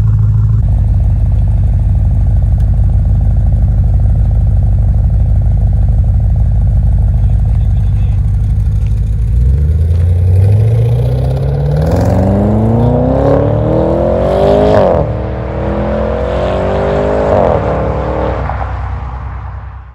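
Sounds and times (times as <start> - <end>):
car engine accelerating hard: 0.0 - 19.6.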